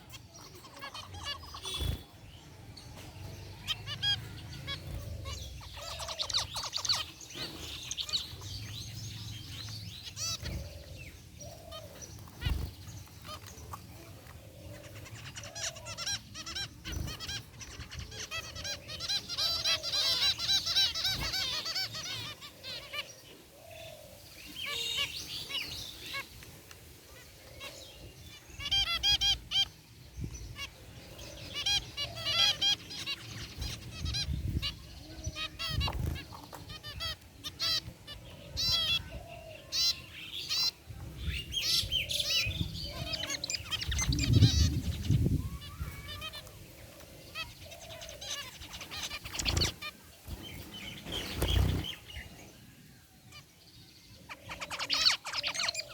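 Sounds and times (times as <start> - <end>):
finches honking and chirping: 0.0 - 55.9.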